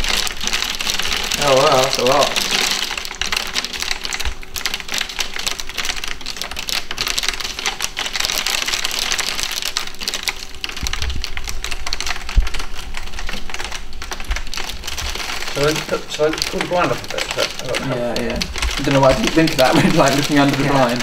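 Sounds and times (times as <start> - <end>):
hail clattering on glass: 0.0 - 21.0.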